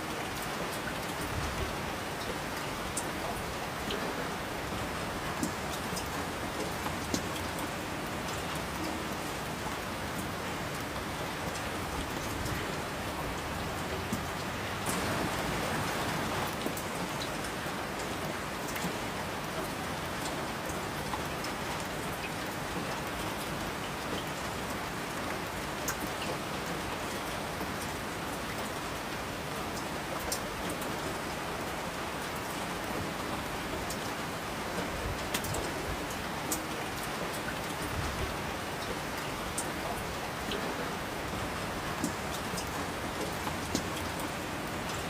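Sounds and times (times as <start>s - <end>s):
raindrops ticking on surface: 0.0s - 45.0s
steady rain hiss: 0.0s - 45.0s.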